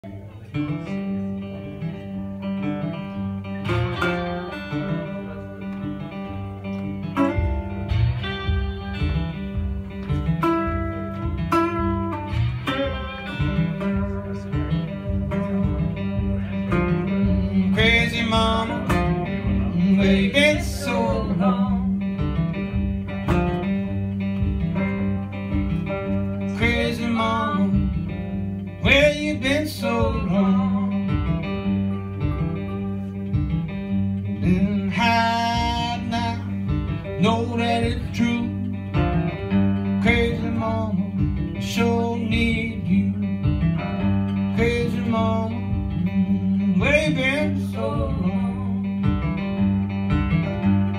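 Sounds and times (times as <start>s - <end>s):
acoustic guitar plucking: 0.0s - 50.9s
resonator guitar slide notes: 0.0s - 50.9s
steady low beat: 1.2s - 50.9s.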